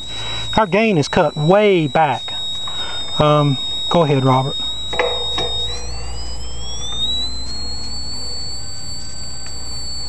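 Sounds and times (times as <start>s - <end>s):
signal meter whistling tone: 0.0s - 10.0s.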